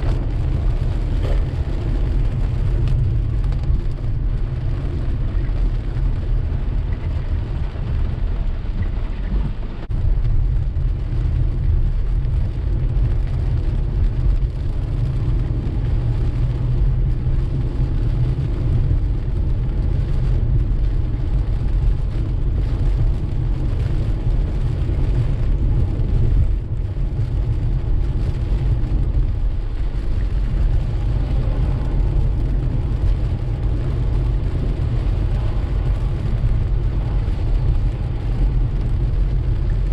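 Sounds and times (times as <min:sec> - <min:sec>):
car road rumble: 0:00.0 - 0:39.9
rain hiss on wet road: 0:00.0 - 0:39.9.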